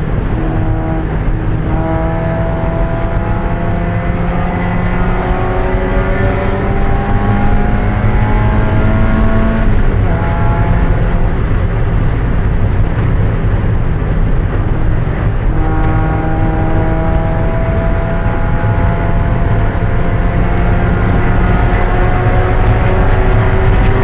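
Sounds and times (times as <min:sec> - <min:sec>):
engine tone shifting pitch: 0:00.0 - 0:11.6, 0:15.2 - 0:24.0
car engine droning: 0:00.0 - 0:24.0.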